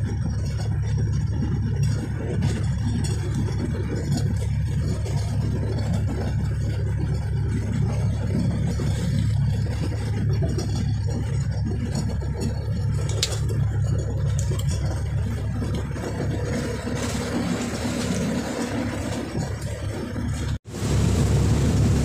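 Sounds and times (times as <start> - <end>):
boat engine droning: 0.0 - 22.0
water noise: 0.0 - 22.0
wind noise: 0.0 - 22.0.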